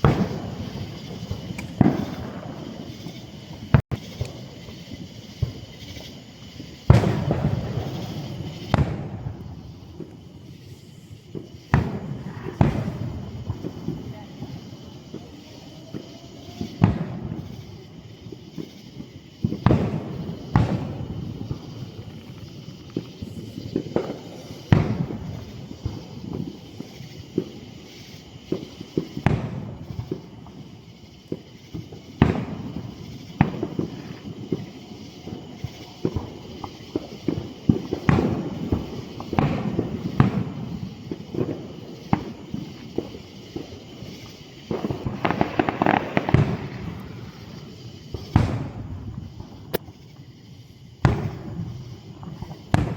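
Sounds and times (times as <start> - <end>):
firework shell booms: 0.0 - 27.5, 35.3 - 50.1, 51.0 - 52.9
fireworks crackling: 0.0 - 52.9.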